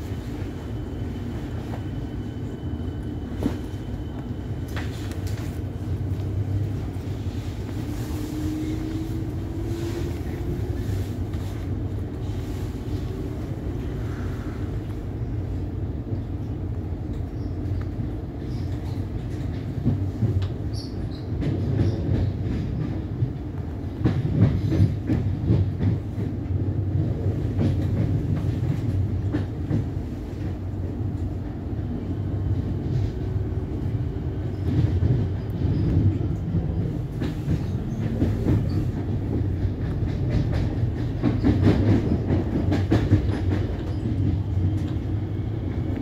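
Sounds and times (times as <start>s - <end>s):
train interior rumble: 0.0s - 46.0s.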